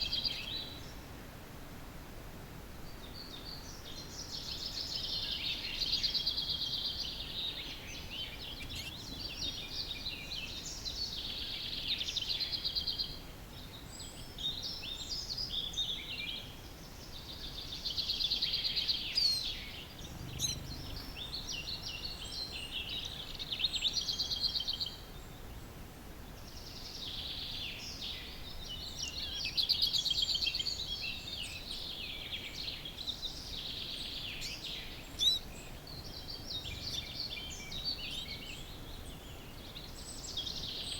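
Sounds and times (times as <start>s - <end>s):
songbirds singing: 0.0s - 1.4s, 2.8s - 40.9s
faint background hiss: 0.0s - 40.9s.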